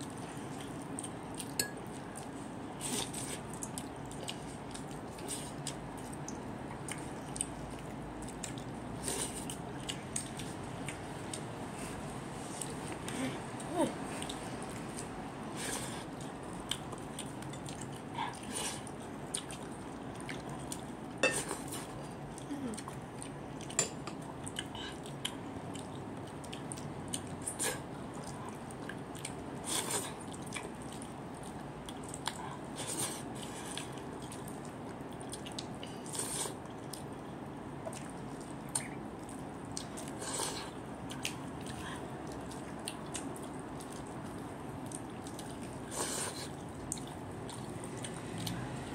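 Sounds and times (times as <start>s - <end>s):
chewing and lip smacks: 0.0s - 15.4s, 16.0s - 48.9s.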